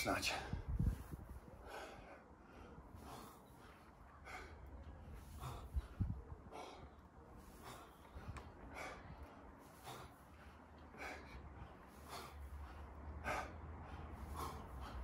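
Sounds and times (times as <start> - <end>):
man breathing hard: 0.1 - 15.0.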